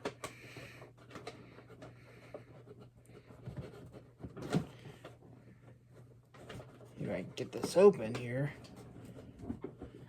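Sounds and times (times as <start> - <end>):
small taps and scrapes: 0.0 - 10.0.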